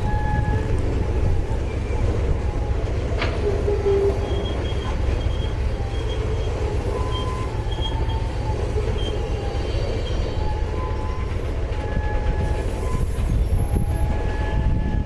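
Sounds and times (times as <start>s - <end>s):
freight train rumbling: 0.0s - 15.0s
wheel squeals: 0.0s - 15.0s.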